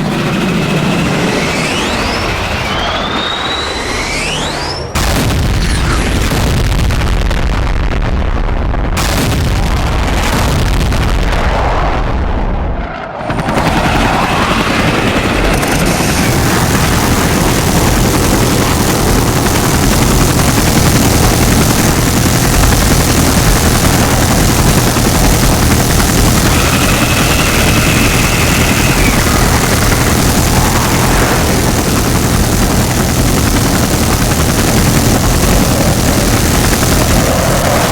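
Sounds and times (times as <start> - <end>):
helicopter and aircraft engine noise: 0.0 - 7.1, 8.9 - 37.9
booms: 4.7 - 37.9.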